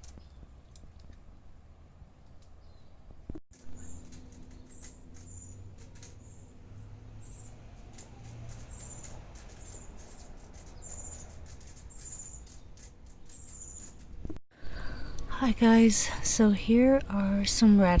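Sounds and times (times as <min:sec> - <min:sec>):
small birds chirping: 0:00.0 - 0:01.5, 0:02.2 - 0:18.0.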